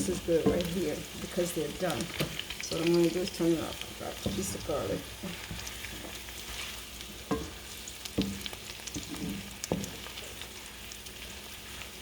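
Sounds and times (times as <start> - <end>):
potatoes sizzling in a frying pan: 0.0 - 12.0.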